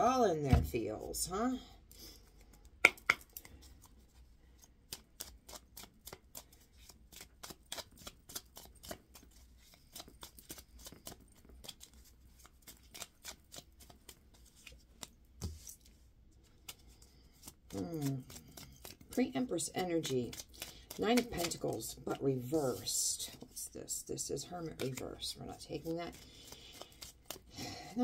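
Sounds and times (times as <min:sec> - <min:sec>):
cards shuffled by hand: 0:02.2 - 0:23.6, 0:24.6 - 0:27.5.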